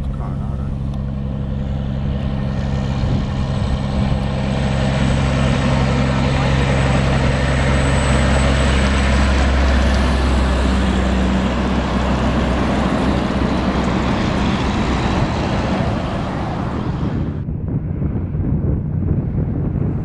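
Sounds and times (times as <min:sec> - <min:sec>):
diesel truck drone: 0:00.0 - 0:20.0
tyre and road noise: 0:00.0 - 0:20.0
wind on microphone: 0:00.0 - 0:20.0.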